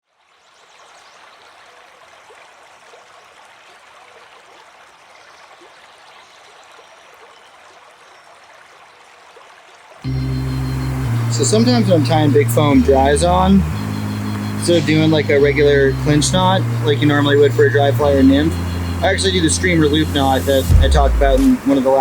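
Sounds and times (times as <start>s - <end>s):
stream flowing: 0.9s - 22.0s.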